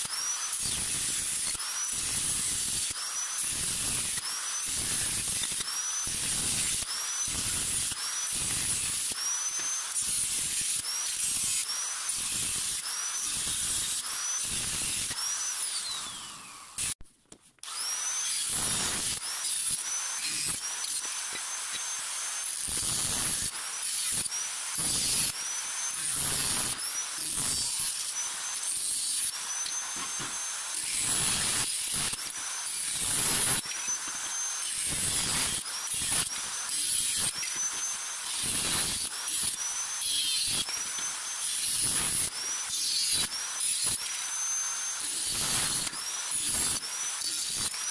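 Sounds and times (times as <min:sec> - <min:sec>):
angle grinder cutting steel: 0:00.0 - 0:17.0, 0:17.6 - 0:47.9.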